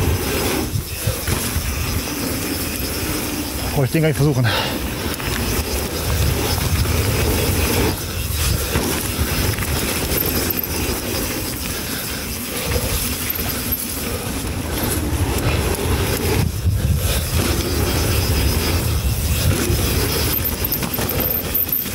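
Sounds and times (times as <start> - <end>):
wind rumble on microphone: 0.0 - 3.9, 4.8 - 21.9
bike tyre and frame rattle: 0.0 - 21.9.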